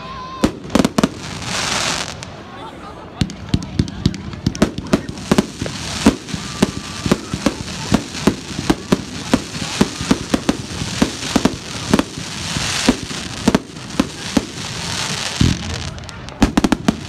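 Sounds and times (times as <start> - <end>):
hissing crackle: 3.3 - 17.0.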